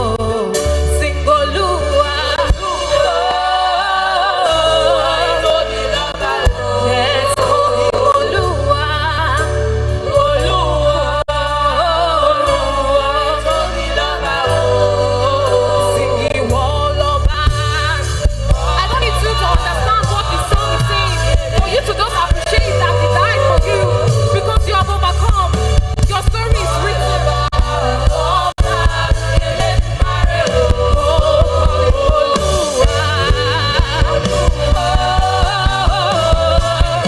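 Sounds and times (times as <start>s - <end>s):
deep bass line: 0.0s - 37.0s
voices singing gospel melody: 0.0s - 37.0s.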